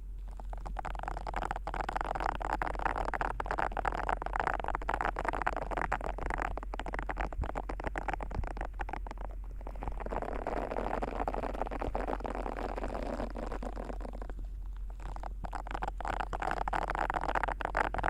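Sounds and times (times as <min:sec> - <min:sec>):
ear pick scratching microphone: 0:00.0 - 0:18.0.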